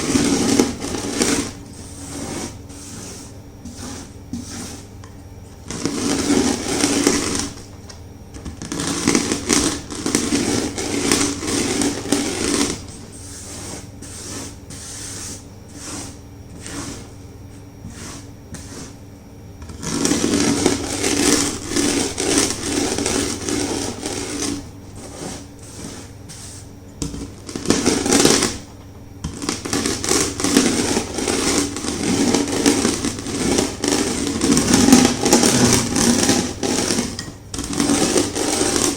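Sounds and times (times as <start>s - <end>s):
chalk crunching under a rolling pin: 0.0s - 7.7s, 8.5s - 19.0s, 19.6s - 38.9s.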